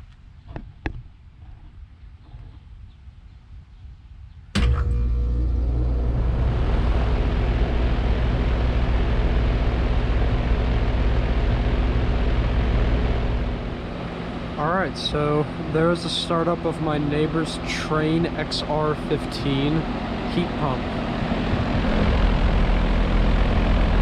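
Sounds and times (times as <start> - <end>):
compressor humming: 4.6 - 24.0
condenser fan spinning: 4.6 - 24.0.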